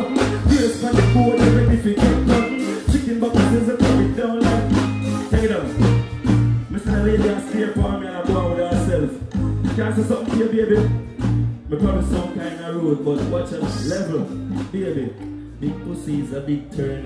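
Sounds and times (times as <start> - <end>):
dancehall backing track: 0.0 - 17.0.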